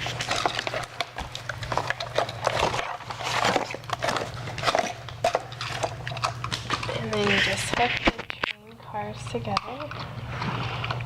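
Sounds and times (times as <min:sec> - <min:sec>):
plastic clicks taps and crinkles: 0:00.0 - 0:10.1
steady low hum: 0:00.0 - 0:11.0.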